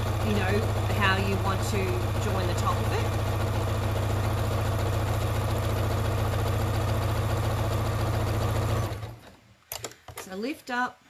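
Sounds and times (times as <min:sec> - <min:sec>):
sewing machine stitching: 0:00.0 - 0:10.4.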